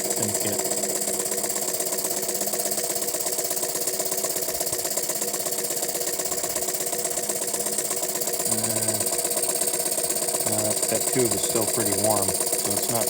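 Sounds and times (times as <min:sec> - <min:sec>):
toy steam engine chuffing: 0:00.0 - 0:13.0.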